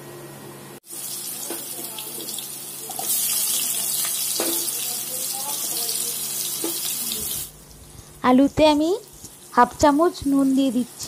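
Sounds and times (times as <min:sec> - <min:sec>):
potatoes sizzling in hot oil: 0:00.8 - 0:11.0.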